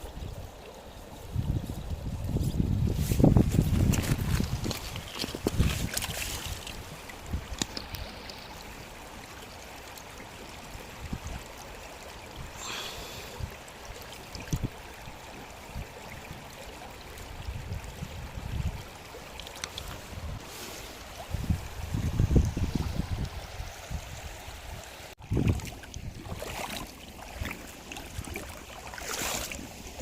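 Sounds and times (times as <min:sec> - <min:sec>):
stream water flowing: 0:00.0 - 0:30.0.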